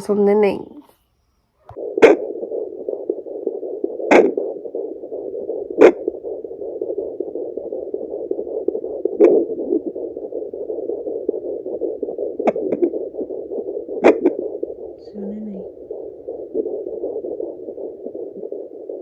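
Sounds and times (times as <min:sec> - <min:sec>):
muffled doppler hiss: 0:00.0 - 0:19.0.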